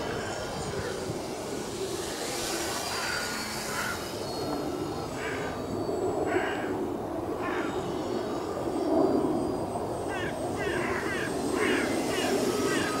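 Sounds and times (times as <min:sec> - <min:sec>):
model airplane propeller drone: 0:00.0 - 0:13.0.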